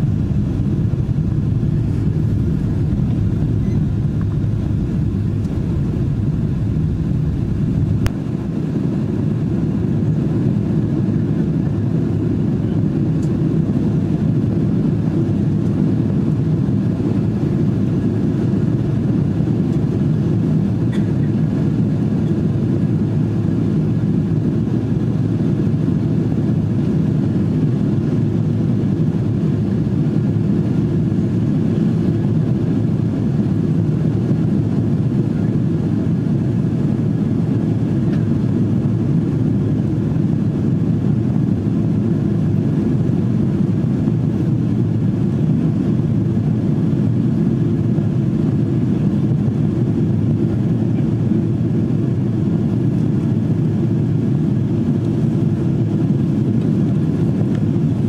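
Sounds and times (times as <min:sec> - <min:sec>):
jet engines and airflow rumble: 0:00.0 - 0:58.0.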